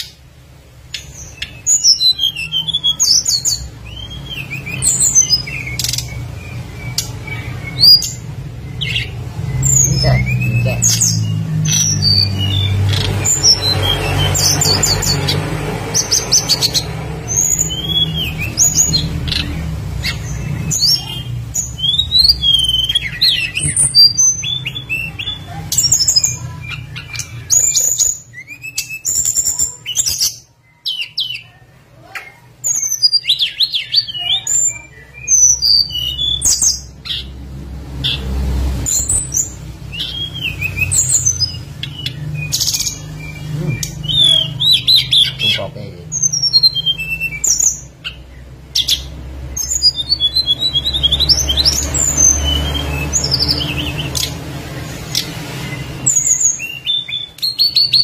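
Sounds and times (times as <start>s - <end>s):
bird singing whistles and chirps: 0.9s - 15.4s, 16.0s - 31.5s, 32.7s - 37.3s, 38.9s - 48.2s, 48.8s - 54.4s, 55.1s - 58.0s.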